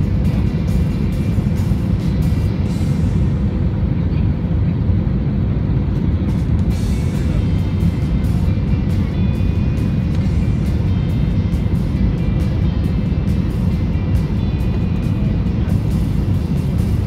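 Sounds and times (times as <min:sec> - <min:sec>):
background music with beat: 0:00.0 - 0:03.3, 0:06.3 - 0:17.0
aircraft cabin engine rumble: 0:00.0 - 0:17.0.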